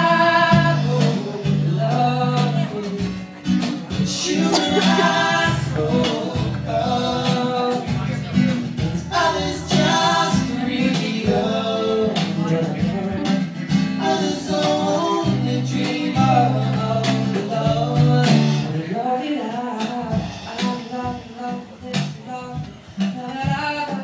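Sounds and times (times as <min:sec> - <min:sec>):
man singing: 0:00.0 - 0:24.0
strummed acoustic guitar: 0:00.0 - 0:24.0.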